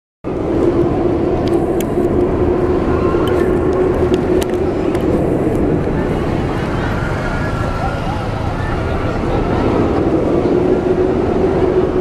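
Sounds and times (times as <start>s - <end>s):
traffic rumble: 0.2s - 12.0s
bus engine humming: 0.3s - 12.0s.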